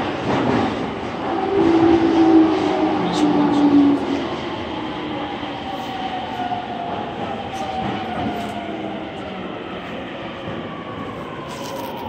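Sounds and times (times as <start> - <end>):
train running noise from inside: 0.0 - 12.0.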